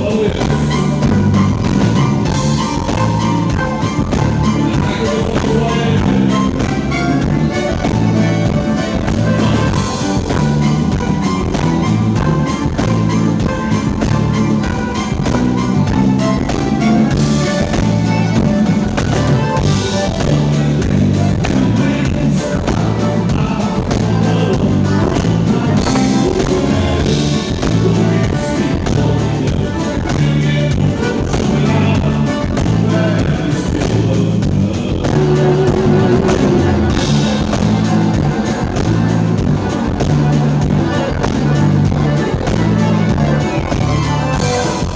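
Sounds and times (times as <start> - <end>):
band music: 0.0 - 44.9
drum kit: 0.0 - 44.9
guitar: 0.0 - 44.9.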